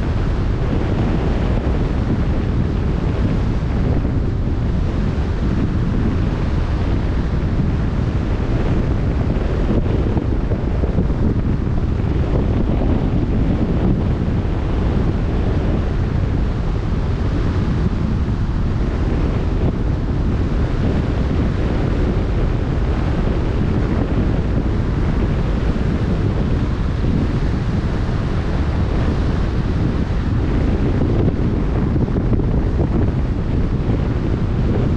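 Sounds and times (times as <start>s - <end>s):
boat wake churning: 0.0s - 34.9s
open sea rushing: 0.0s - 34.9s
wind on microphone: 0.0s - 34.9s.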